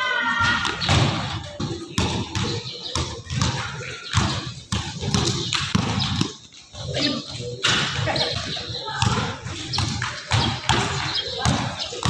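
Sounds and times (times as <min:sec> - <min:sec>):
basketball bouncing on gym floor: 0:00.6 - 0:06.9, 0:07.6 - 0:12.0.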